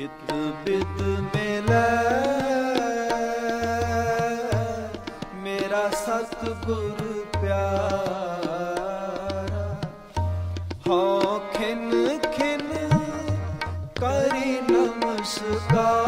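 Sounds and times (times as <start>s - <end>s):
man singing a hymn: 0.0s - 10.0s, 10.9s - 16.0s
harmonium: 0.0s - 16.0s.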